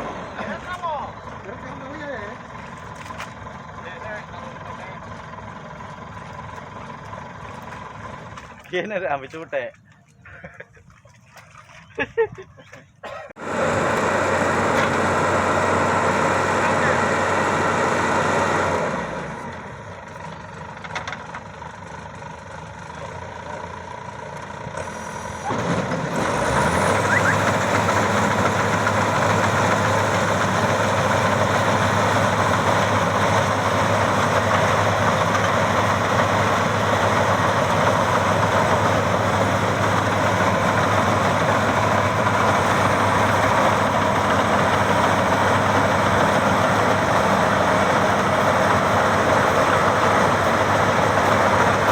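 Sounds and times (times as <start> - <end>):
combine harvester engine running: 0.0 - 9.6, 13.4 - 51.9.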